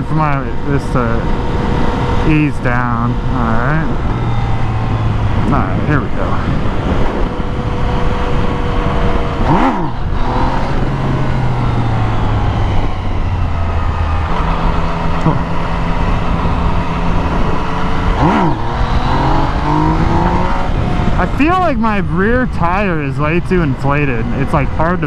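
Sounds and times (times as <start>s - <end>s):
motorcycle engine revving hard: 0.0s - 25.0s
wind noise on microphone: 0.0s - 25.0s.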